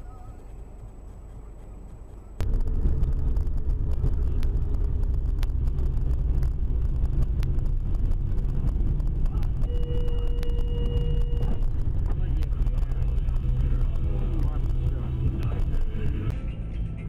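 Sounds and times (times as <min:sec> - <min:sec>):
steady tone: 0:00.0 - 0:16.4
car engine and tyres rumbling: 0:00.0 - 0:17.0.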